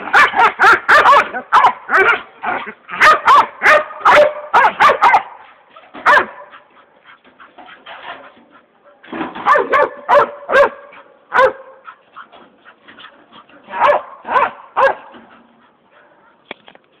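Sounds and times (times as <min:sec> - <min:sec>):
dog barking excitedly: 0:00.0 - 0:08.3, 0:09.0 - 0:15.3.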